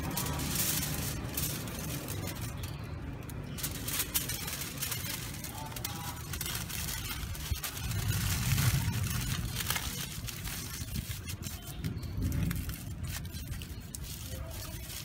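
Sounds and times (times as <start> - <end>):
aluminium foil crinkling: 0.0 - 15.0
low rumble: 0.0 - 15.0.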